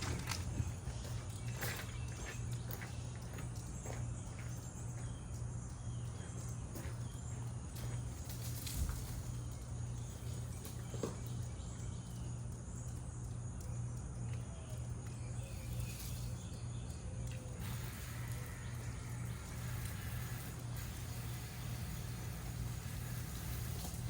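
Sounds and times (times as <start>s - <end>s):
faint birds chirping: 0.0s - 24.0s
steady low hum: 0.0s - 24.0s.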